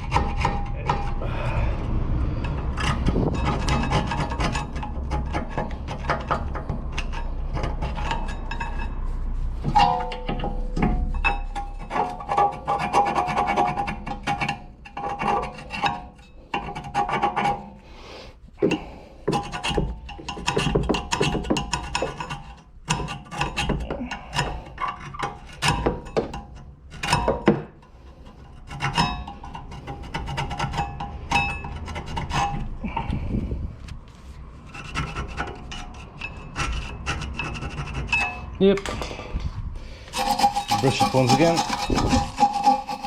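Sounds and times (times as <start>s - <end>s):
scraping metal: 0.0s - 43.0s.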